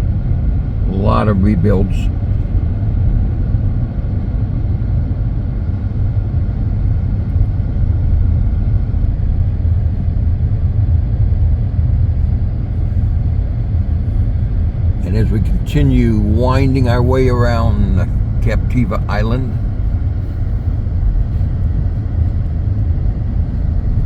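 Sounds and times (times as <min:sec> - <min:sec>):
vehicle road noise rumble: 0:00.0 - 0:24.0.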